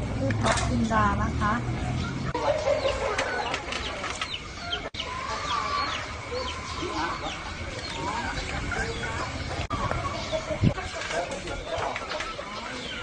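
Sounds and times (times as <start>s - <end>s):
chickens clucking: 0.3s - 13.0s
high chirping calls: 1.7s - 13.0s.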